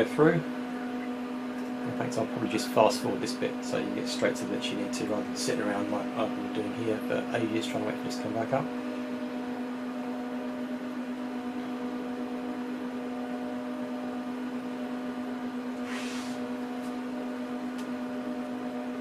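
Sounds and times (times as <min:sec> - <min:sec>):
server cooling fans humming: 0:00.0 - 0:19.0.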